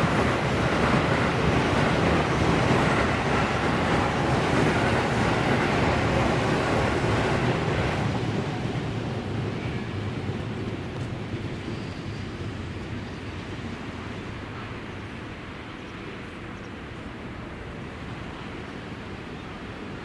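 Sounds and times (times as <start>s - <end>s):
train passing with rushing roar: 0.0s - 20.0s.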